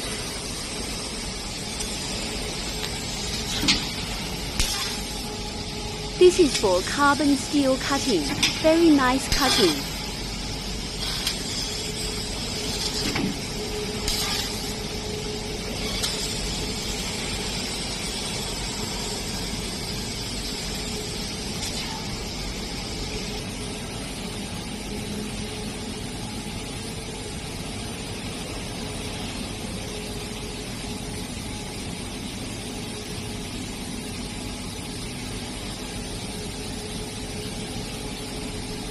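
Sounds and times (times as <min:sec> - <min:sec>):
laser cutter hiss and hum: 0:00.0 - 0:38.9.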